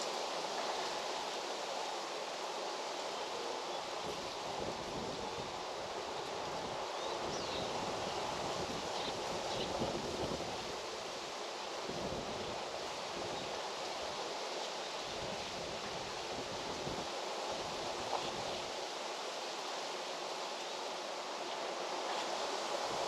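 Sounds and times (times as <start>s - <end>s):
wind rustling leaves: 0.0s - 23.0s.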